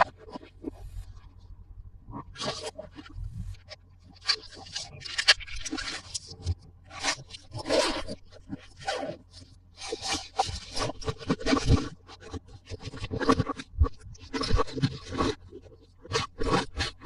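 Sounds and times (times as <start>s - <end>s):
plastic toy parts scraping and rustling: 2.3s - 17.0s.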